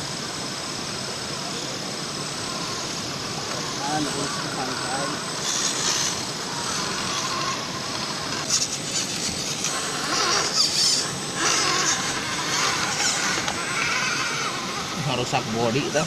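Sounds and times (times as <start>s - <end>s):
rc truck motor and gear whine: 0.0s - 16.0s.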